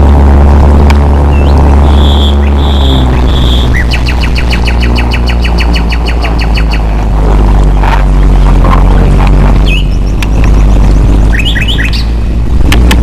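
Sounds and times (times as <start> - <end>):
loud steady low drone: 0.0 - 13.0
birds chirping: 1.1 - 13.0.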